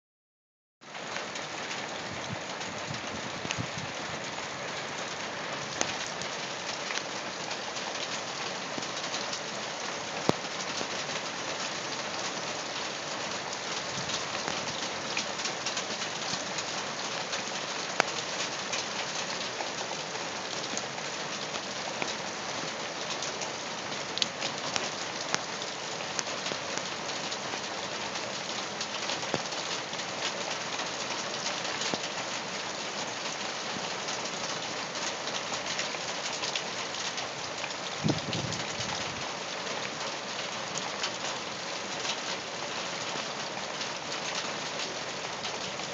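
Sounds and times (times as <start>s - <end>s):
heavy rain on gravel: 0.8s - 45.9s.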